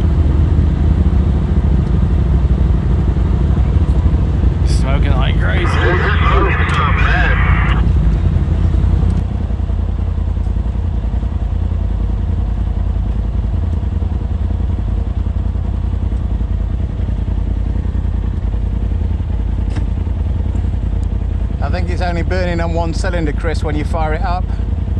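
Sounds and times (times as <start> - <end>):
engine idling: 2.3 - 24.9.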